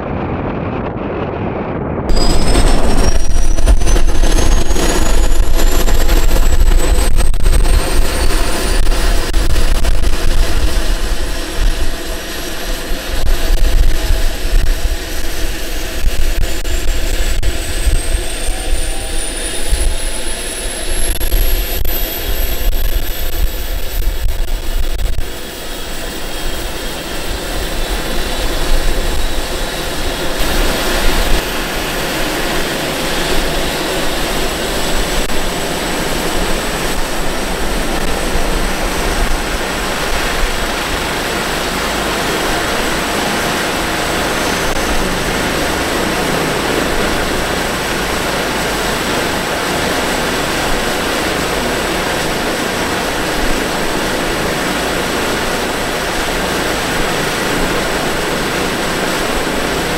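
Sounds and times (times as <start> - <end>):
helicopter rotor rushing: 0.0 - 59.9
helicopter turbine whine: 0.0 - 59.9.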